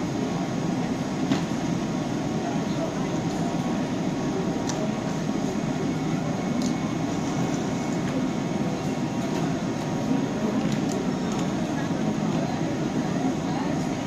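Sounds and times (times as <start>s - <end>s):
train ventilation hum: 0.0s - 14.0s.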